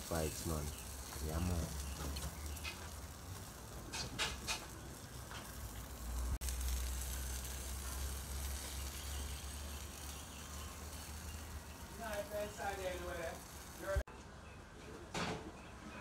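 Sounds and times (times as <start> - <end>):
chicken sizzling on grill: 0.0 - 14.1
fire crackles: 0.0 - 14.1.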